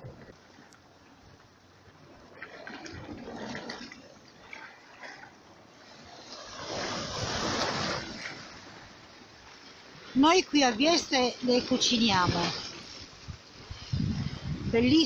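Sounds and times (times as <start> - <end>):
sea waves washing against rocks: 2.0 - 15.0.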